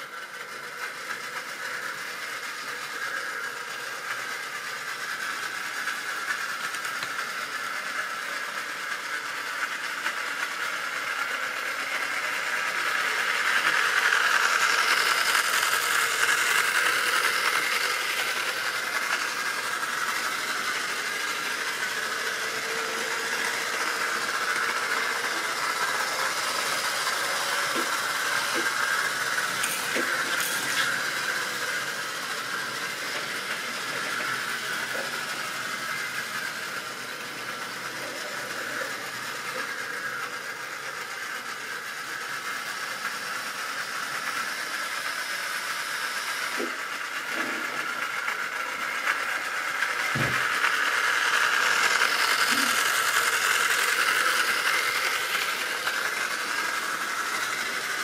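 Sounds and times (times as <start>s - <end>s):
electric locomotive motor whine: 0.0s - 58.0s.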